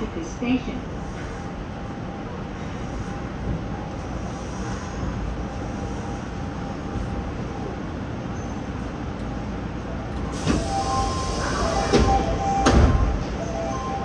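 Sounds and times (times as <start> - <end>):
subway train running rumble: 0.0 - 14.0.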